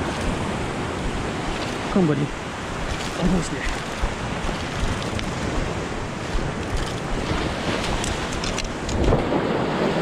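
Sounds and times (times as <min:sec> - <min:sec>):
waves breaking against a seawall: 0:00.0 - 0:10.0
wind buffeting microphone: 0:00.0 - 0:10.0.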